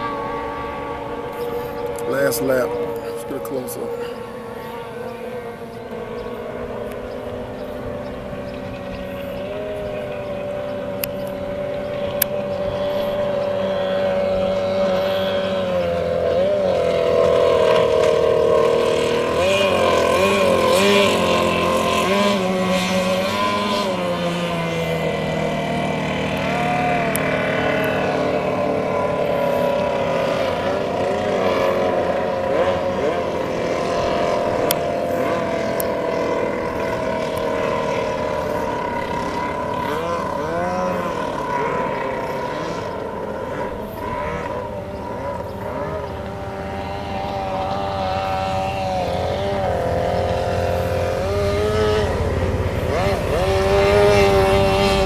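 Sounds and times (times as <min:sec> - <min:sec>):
racing boat outboard motor: 0:00.0 - 0:55.0.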